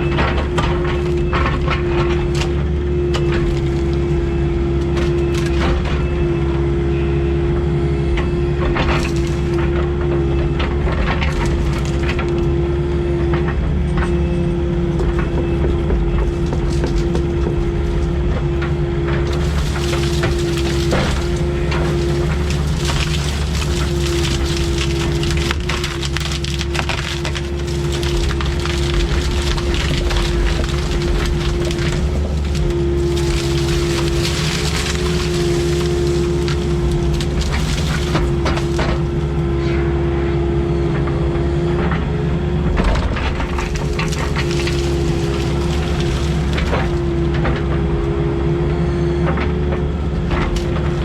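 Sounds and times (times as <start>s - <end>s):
branches cracking and splintering: 0.0s - 6.8s, 8.6s - 13.4s, 15.3s - 39.8s, 42.7s - 48.2s, 50.3s - 51.0s
excavator engine rumbling: 0.0s - 51.0s.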